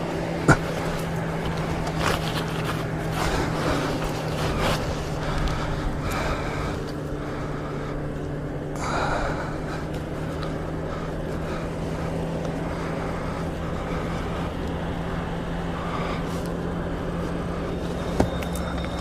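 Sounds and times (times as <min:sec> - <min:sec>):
motorcycle engine running: 0:00.0 - 0:19.0
road and wind noise: 0:00.0 - 0:19.0.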